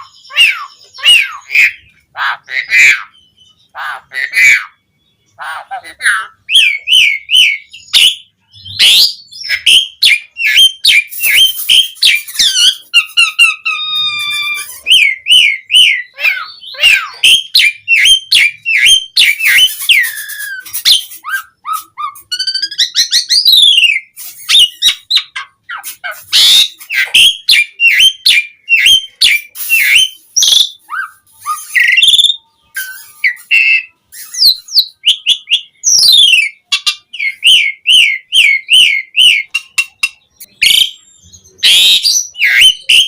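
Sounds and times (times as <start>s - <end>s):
starling singing: 0.0s - 43.0s.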